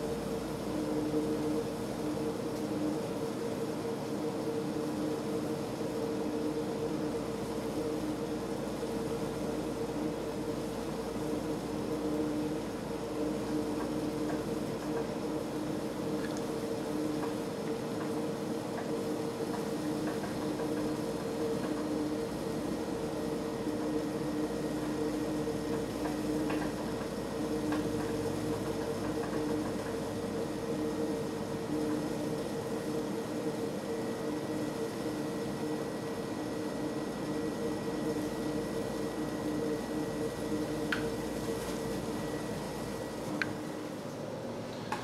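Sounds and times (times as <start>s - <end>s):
water boiling in pot: 0.0s - 43.9s
steady low hum: 0.0s - 45.0s.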